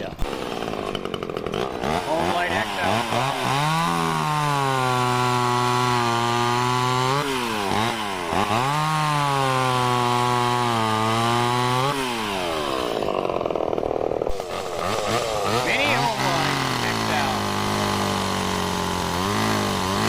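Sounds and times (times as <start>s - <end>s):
chainsaw at full throttle: 0.0s - 20.0s.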